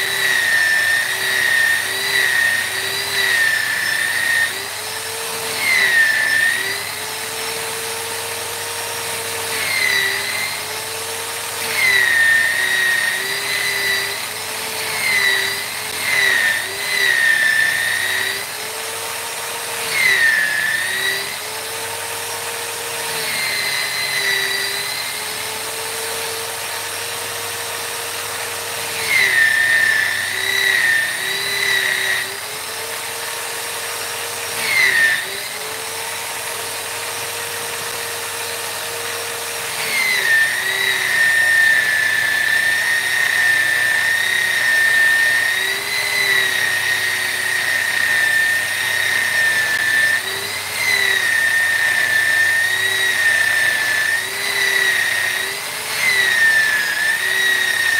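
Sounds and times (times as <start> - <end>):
power tool whining on wood: 0.0 - 57.9.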